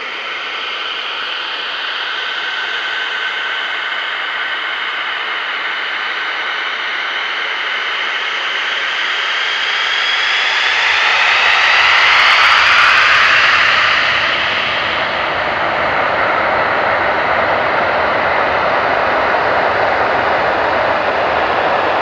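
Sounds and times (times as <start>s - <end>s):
jet engine roar with whine: 0.0s - 22.0s.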